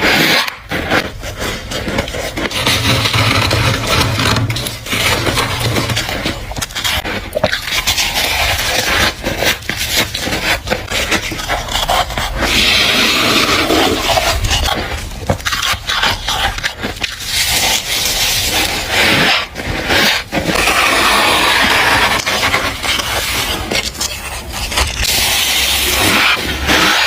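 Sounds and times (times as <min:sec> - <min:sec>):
ice scraped by fingers: 0:00.0 - 0:27.0.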